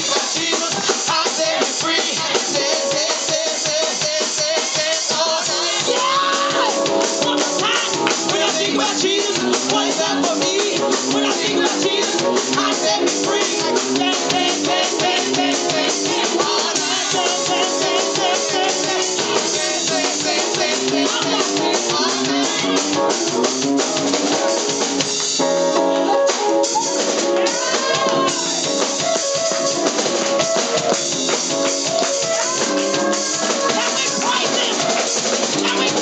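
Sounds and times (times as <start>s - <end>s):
gospel music with drums and guitar: 0.0s - 36.0s.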